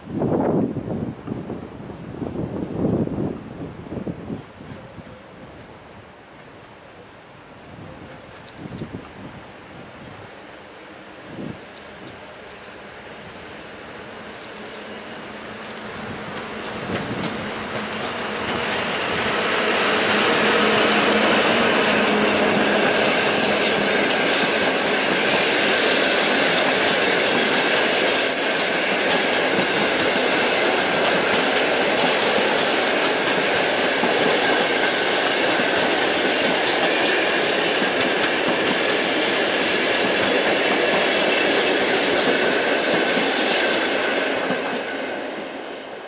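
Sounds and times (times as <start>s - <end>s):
train wheels rumbling on rails: 7.8s - 46.0s.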